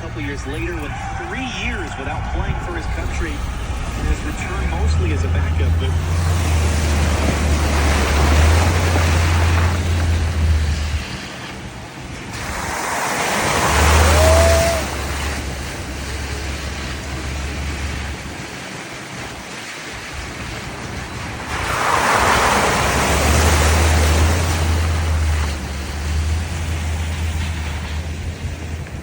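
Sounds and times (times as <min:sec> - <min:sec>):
low engine hum: 0:00.0 - 0:29.0
tyres hissing on wet road: 0:00.0 - 0:29.0
water splashing: 0:00.0 - 0:29.0.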